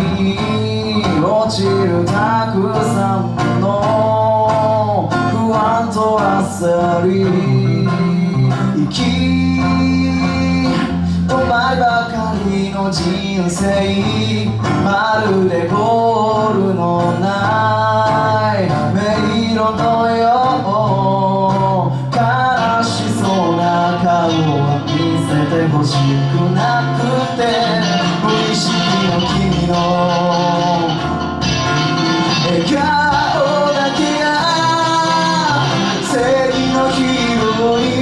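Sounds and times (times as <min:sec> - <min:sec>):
live band playing: 0:00.0 - 0:38.0
man singing: 0:00.0 - 0:38.0.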